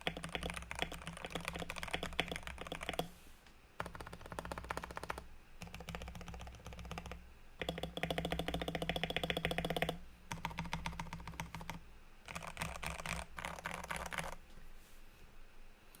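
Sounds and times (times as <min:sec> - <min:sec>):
typing on mechanical keyboard: 0:00.0 - 0:03.1, 0:03.8 - 0:14.4.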